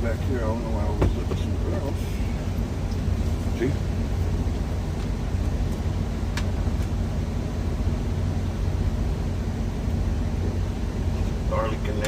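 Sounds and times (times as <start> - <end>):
truck engine idling hum: 0.0 - 12.0.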